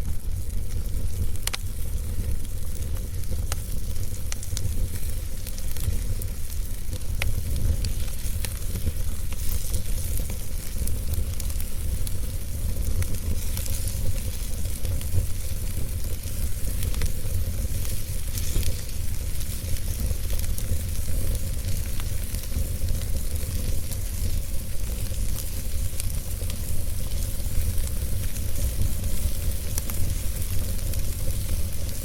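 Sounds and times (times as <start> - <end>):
fire crackling: 0.0 - 32.0.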